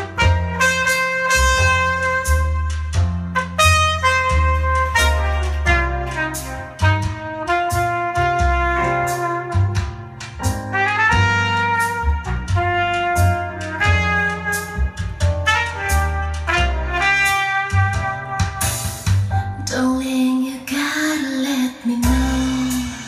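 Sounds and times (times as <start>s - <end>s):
instrumental jazz through speaker: 0.0s - 23.0s.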